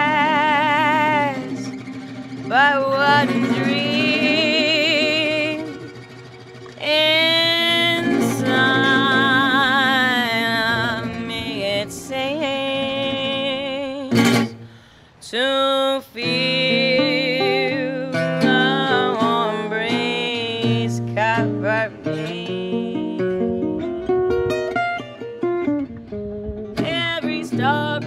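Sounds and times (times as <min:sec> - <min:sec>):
woman singing slow song: 0:00.0 - 0:06.0, 0:06.7 - 0:24.2, 0:26.7 - 0:28.0
acoustic guitar chords: 0:00.0 - 0:28.0.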